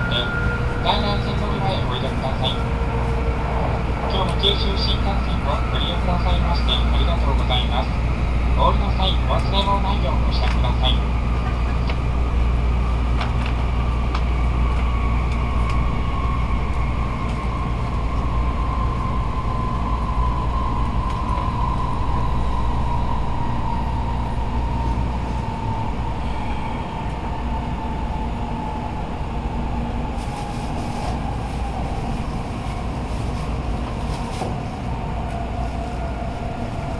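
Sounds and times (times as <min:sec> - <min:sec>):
train cabin rumble: 0:00.0 - 0:36.9.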